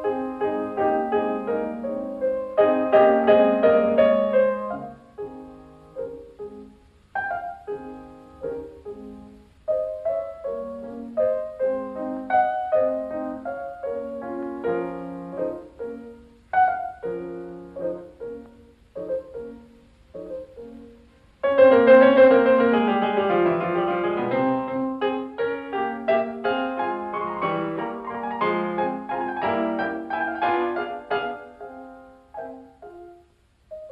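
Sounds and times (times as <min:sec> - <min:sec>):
solo piano music: 0:00.0 - 0:33.9.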